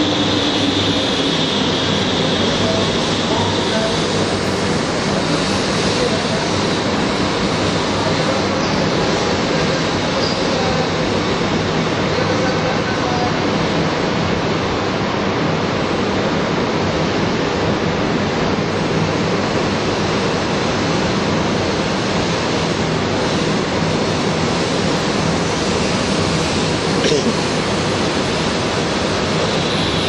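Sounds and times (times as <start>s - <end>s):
train passing: 0.0s - 30.0s
wheels on rail and rushing air: 0.0s - 30.0s.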